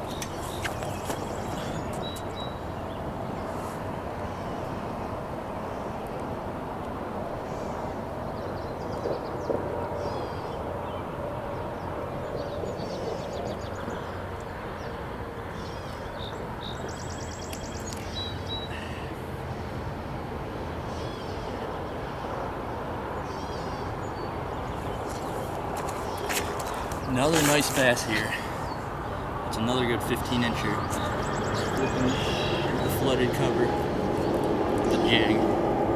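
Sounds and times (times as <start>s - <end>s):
birds calling: 0.0s - 5.1s, 7.4s - 19.2s, 23.1s - 35.9s.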